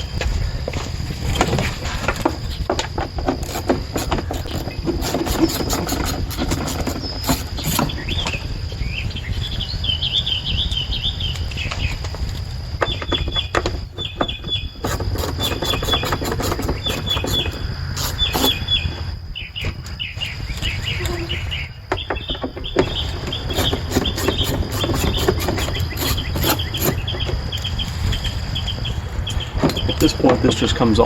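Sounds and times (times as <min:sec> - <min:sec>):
birds chirping: 0:01.3 - 0:31.0.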